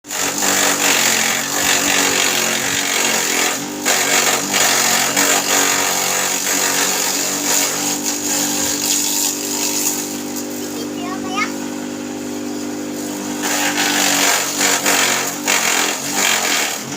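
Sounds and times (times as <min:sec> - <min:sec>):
grass chopper engine running: 0:00.0 - 0:16.9.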